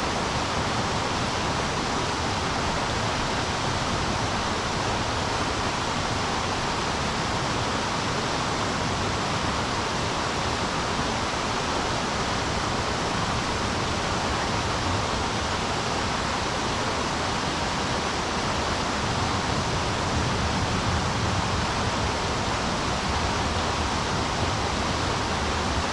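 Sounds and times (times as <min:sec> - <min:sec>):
river current rushing: 0:00.0 - 0:25.9.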